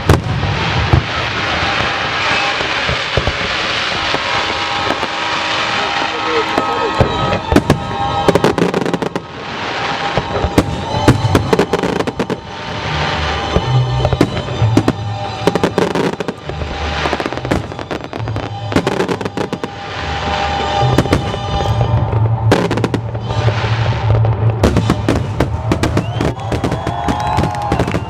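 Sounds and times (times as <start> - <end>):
fireworks bangs and crackles: 0.0 - 28.0
music: 4.6 - 28.0.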